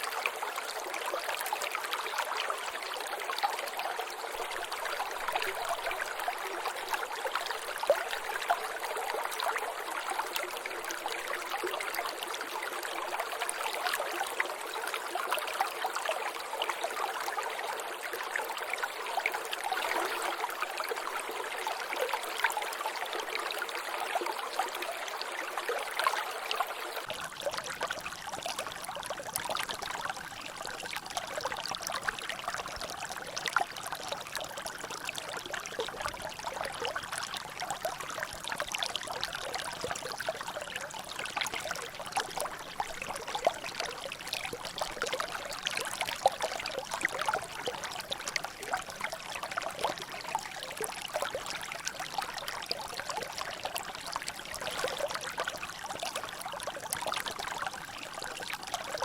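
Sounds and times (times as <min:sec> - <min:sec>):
low rumble of flowing water: 0:00.0 - 0:59.0
water trickling and dripping: 0:00.0 - 0:59.0.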